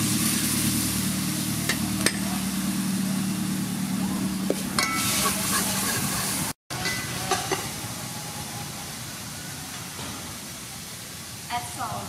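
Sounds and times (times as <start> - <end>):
food sizzling in oil: 0.0 - 3.0, 4.8 - 12.0.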